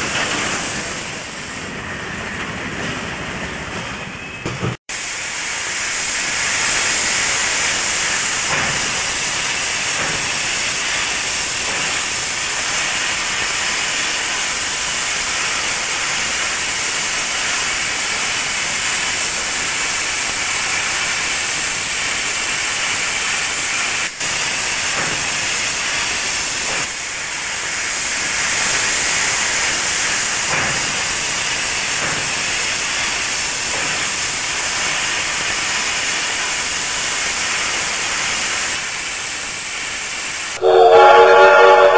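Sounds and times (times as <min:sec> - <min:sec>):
steam train hissing: 0:00.0 - 0:41.9.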